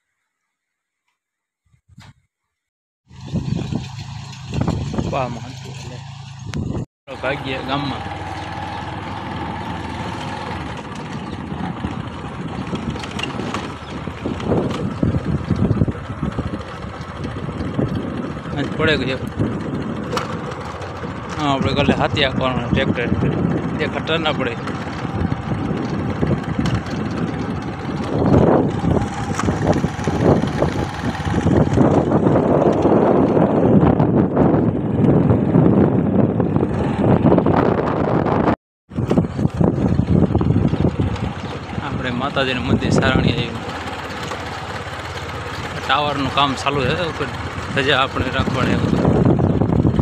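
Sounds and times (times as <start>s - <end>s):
wind on microphone: 3.1s - 6.9s, 8.4s - 44.7s, 45.6s - 50.0s
motorcycle engine running: 3.1s - 50.0s.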